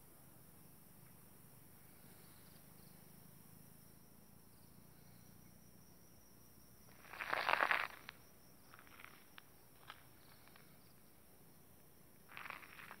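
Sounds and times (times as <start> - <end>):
faint high insect buzz: 0.0 - 13.0.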